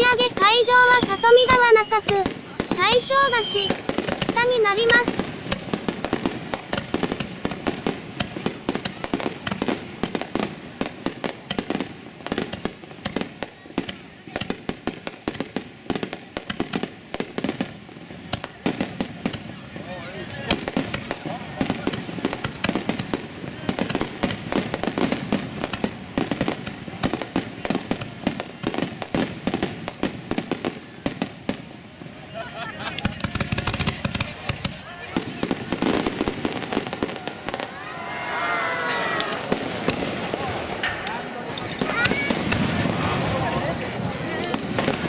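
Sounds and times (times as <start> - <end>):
firework bangs and crackles: 0.0 - 45.0.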